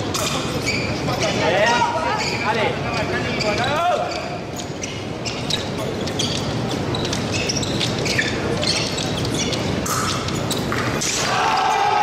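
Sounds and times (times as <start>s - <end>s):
murmur of large hall: 0.0s - 12.0s
shoes squeaking and clicking: 0.0s - 12.0s.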